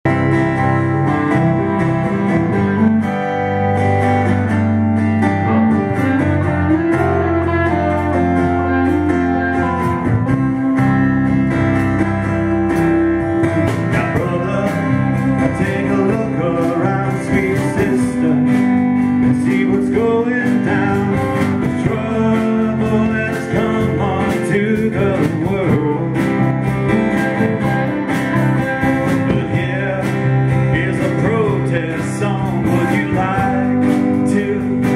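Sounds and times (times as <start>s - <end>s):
acoustic guitar strumming: 0.0s - 34.9s
bass guitar: 0.0s - 34.9s
drum kit: 0.0s - 34.9s
electric guitar: 0.0s - 34.9s.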